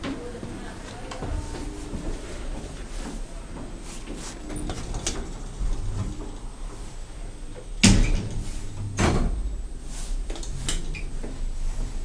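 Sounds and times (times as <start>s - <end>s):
low steady hum: 0.0s - 12.0s
elevator doors sliding: 1.0s - 12.0s.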